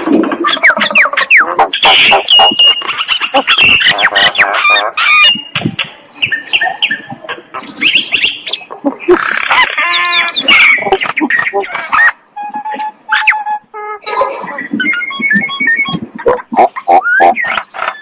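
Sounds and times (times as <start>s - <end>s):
myna bird singing: 0.4s - 13.9s, 14.6s - 18.0s.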